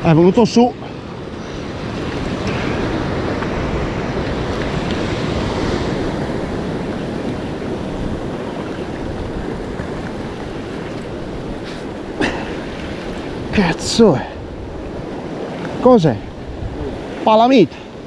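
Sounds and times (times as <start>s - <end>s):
surf washing over rocks: 0.0s - 18.0s
wind rumbling on microphone: 0.0s - 18.0s.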